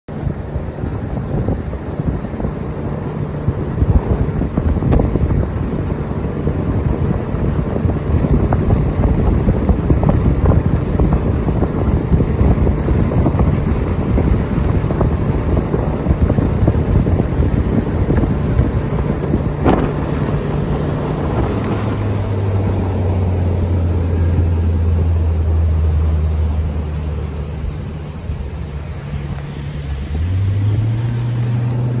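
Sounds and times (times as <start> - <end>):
boat engine running: 0.1 - 32.0
wind buffeting microphone: 0.1 - 32.0.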